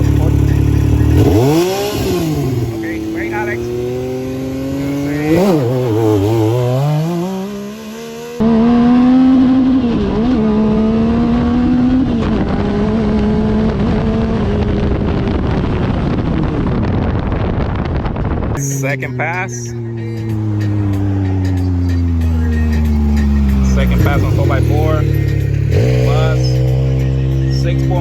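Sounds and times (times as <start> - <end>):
engine revving at full throttle: 0.0 - 16.5, 18.6 - 28.0.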